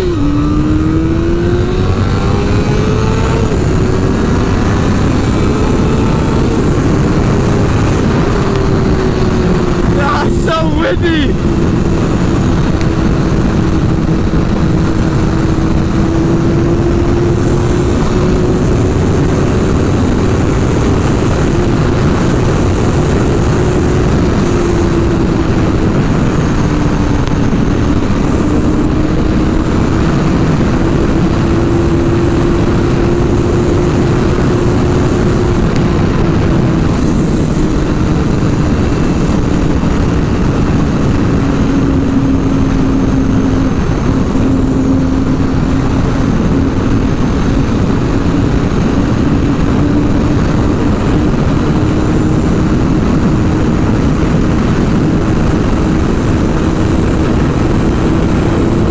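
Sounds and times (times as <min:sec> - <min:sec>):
motorcycle engine cruising: 0:00.0 - 0:58.9
wind noise on microphone: 0:00.0 - 0:58.9.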